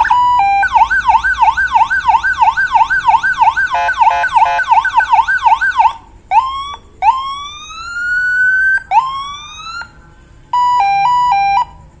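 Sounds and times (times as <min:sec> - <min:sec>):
electronic siren whoops: 0:00.0 - 0:11.8
two-tone high-low siren: 0:00.0 - 0:11.9.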